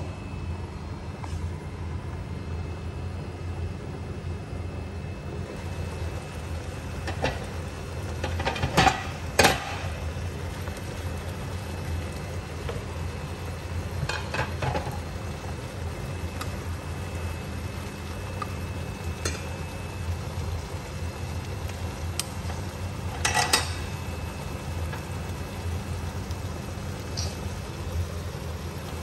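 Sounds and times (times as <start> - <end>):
steady low hum: 0.0 - 29.0
prawns sizzling in a frying pan: 5.5 - 29.0.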